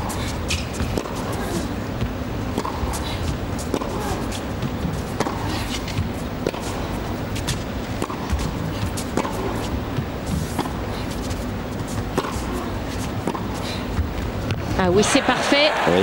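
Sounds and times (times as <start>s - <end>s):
tennis ball hits: 0.0s - 14.6s
arena background hum: 0.0s - 16.0s.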